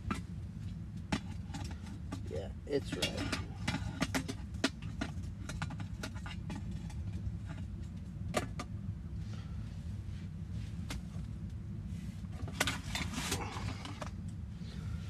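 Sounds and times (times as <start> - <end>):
fire clicks and crackles: 0.0 - 9.2, 10.4 - 14.5
wood stove rumbling: 0.0 - 15.0.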